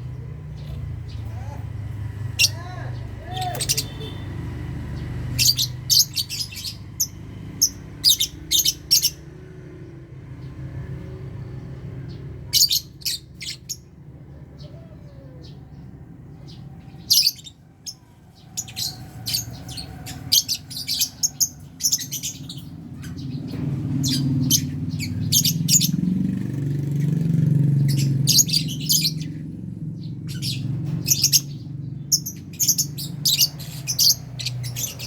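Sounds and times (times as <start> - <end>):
lovebirds chirping: 0.0 - 35.0.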